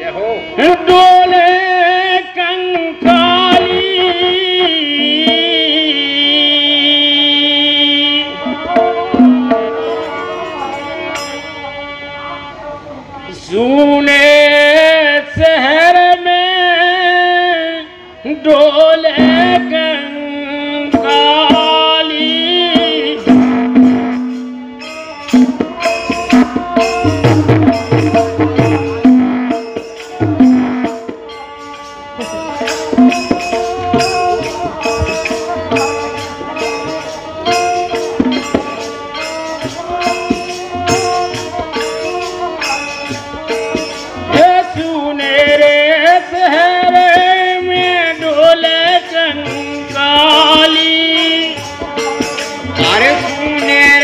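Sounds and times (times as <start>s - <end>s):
harmonium: 0.0s - 54.0s
man singing: 0.0s - 54.0s
tabla and hand percussion: 0.0s - 54.0s.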